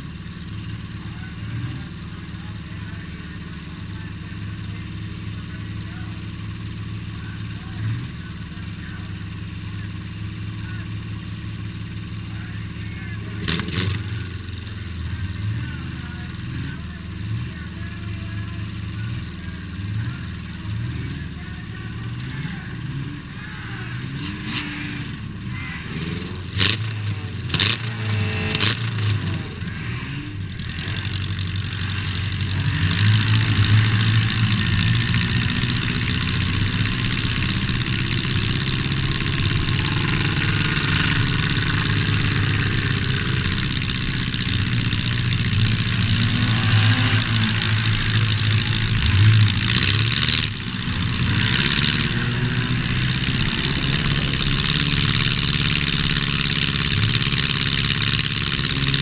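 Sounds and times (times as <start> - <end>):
other car engines: 0.0 - 59.0
race car engine: 0.0 - 59.0.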